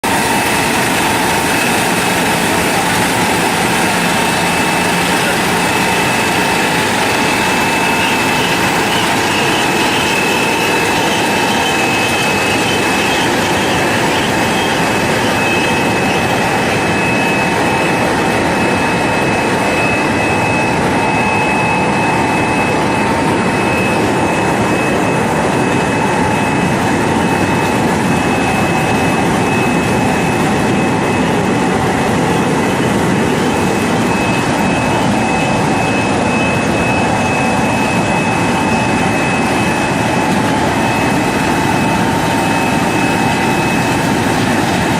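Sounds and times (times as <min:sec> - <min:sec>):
high whine: 0:00.0 - 0:44.9
washing machine mechanical rush: 0:00.0 - 0:44.9.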